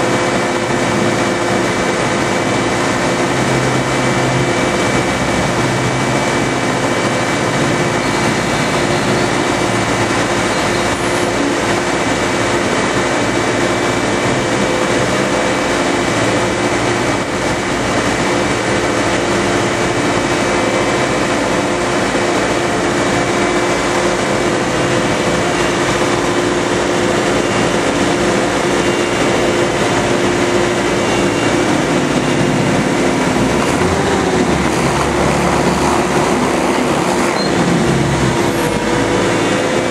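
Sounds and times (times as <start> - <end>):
marine thruster droning: 0.0 - 39.9
rushing water: 0.0 - 39.9.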